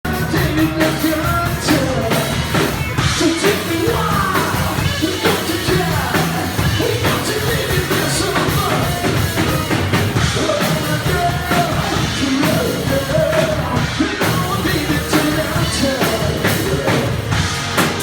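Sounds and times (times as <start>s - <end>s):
drums: 0.0s - 18.0s
rock band playing live: 0.0s - 18.0s
person singing and shouting: 0.1s - 18.0s.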